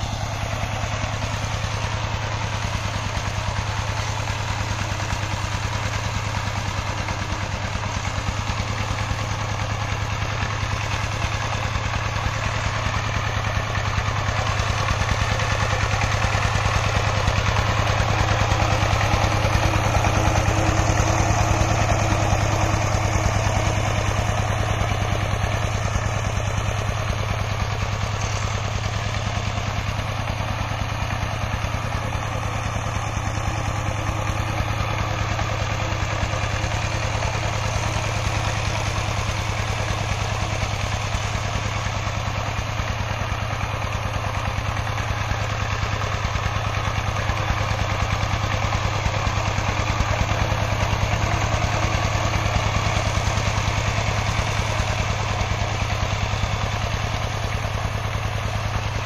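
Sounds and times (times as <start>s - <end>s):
diesel engine chugging: 0.0s - 59.0s.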